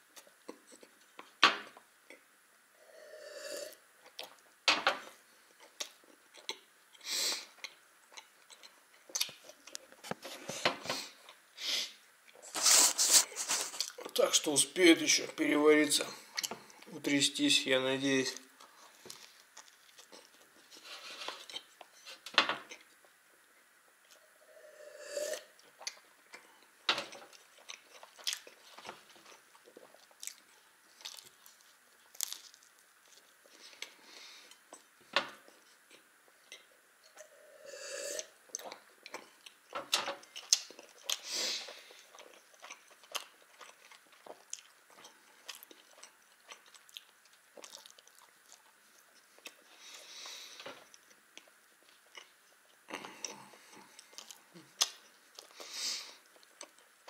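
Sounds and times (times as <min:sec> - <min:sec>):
person chewing buns: 0:05.3 - 0:11.5, 0:12.2 - 0:14.2, 0:18.4 - 0:57.0.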